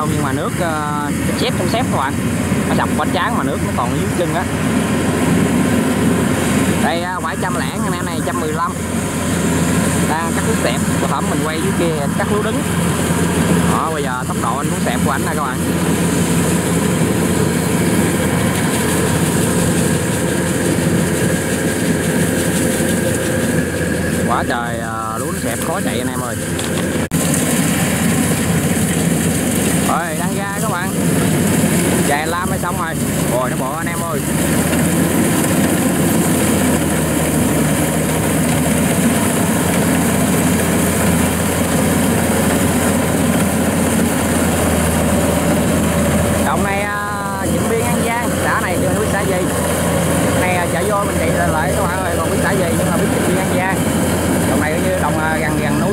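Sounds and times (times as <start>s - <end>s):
combine harvester engine hum: 0.0s - 55.9s
cutter and threshing drum clatter: 0.0s - 55.9s.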